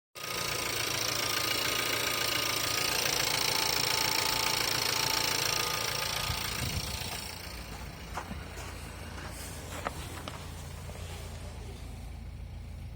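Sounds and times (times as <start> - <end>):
car engine idling: 0.2 - 12.9.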